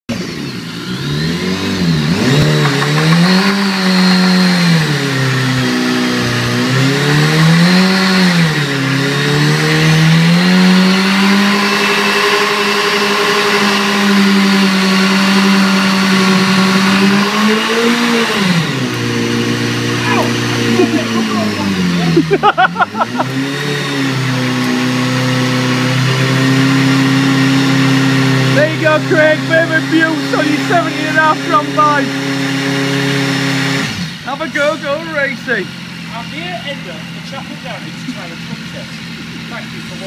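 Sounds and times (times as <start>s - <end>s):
motorcycle engine revving: 0.1s - 40.0s.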